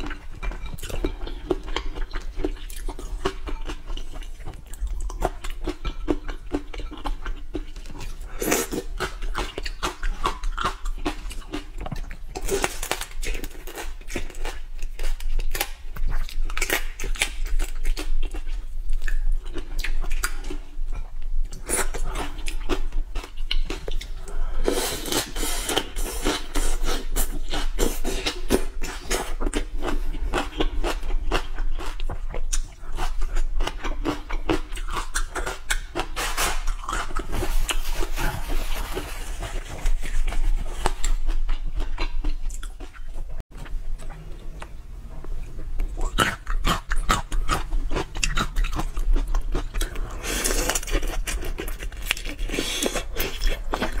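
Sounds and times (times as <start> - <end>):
close chewing and crunching: 0.0 - 54.0.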